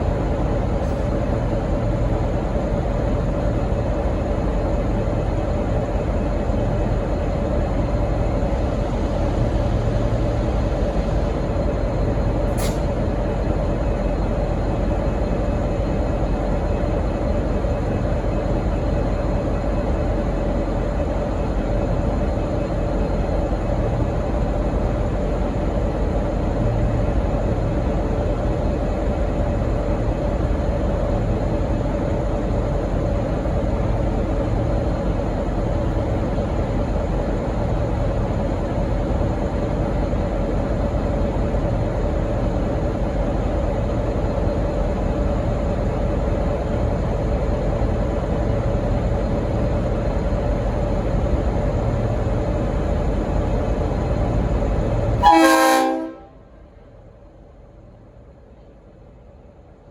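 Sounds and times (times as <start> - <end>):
diesel locomotive running: 0.0 - 59.9.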